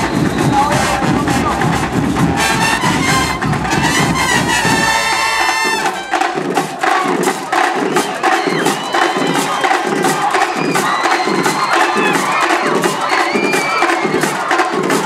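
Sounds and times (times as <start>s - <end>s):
marching band brass: 0.0s - 15.0s
marching drums: 0.0s - 15.0s.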